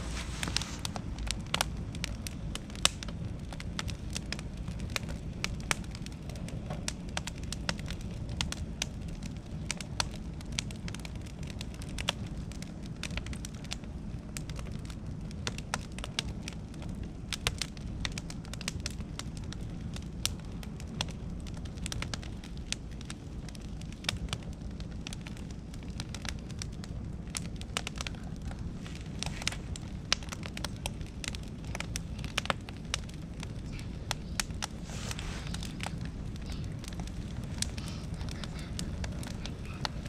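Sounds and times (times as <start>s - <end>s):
steady low rumble: 0.0s - 40.0s
wood fire crackling: 0.0s - 40.0s.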